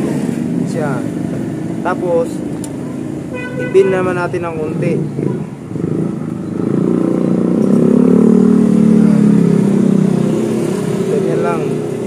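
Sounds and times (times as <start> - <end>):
motorcycle engine passing: 0.0 - 12.0.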